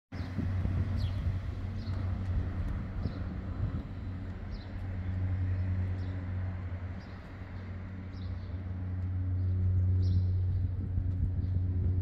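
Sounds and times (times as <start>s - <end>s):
low mechanical hum: 0.2s - 12.0s.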